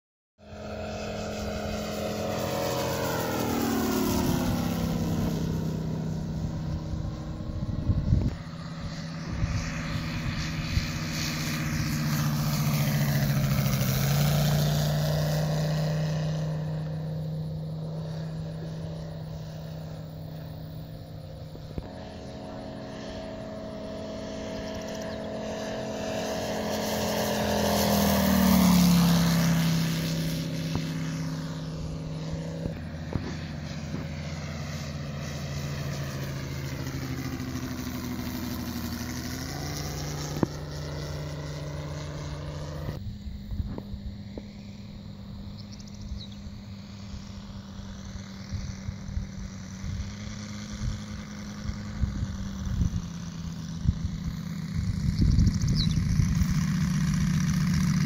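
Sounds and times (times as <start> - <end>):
model plane radial engine: 0.4 - 58.0.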